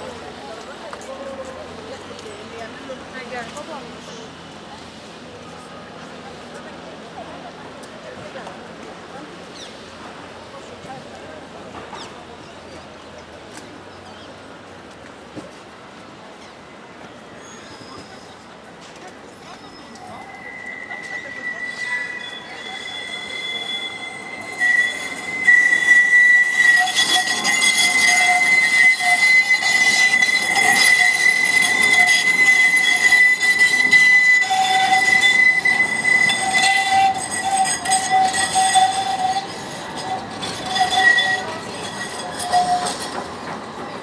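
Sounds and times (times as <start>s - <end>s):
tram wheels squealing on rails: 0.0s - 44.0s.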